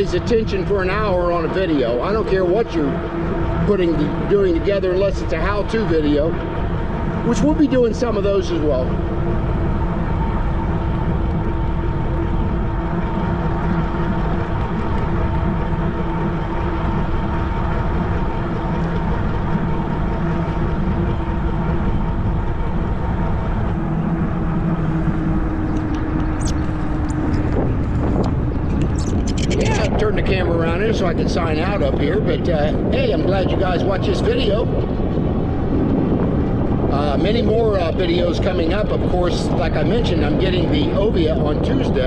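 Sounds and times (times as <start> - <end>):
wind noise on microphone: 0.0 - 42.0.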